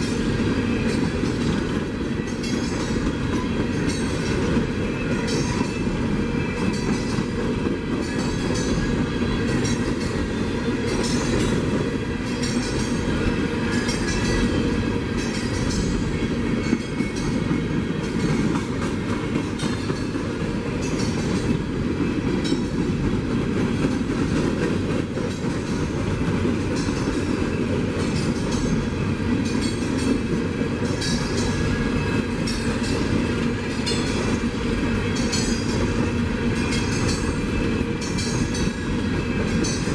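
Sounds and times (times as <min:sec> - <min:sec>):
low train rumble: 0:00.0 - 0:39.9
train wheels clicking over rail joints: 0:00.0 - 0:39.9.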